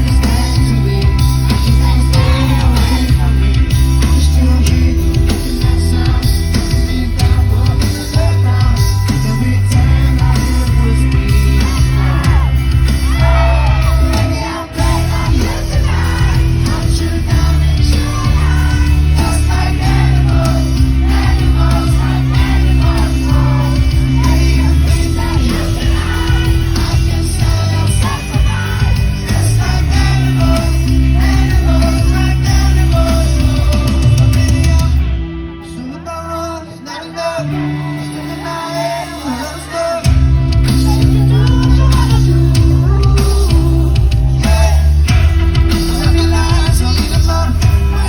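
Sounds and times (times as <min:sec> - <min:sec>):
live rock band playing: 0:00.0 - 0:48.0
man singing: 0:00.0 - 0:48.0
crowd shouting: 0:01.4 - 0:03.5, 0:04.2 - 0:48.0.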